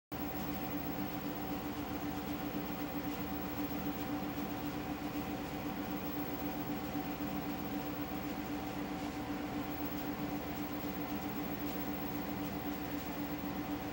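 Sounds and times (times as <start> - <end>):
mechanical hum with pitched tones: 0.1 - 13.9.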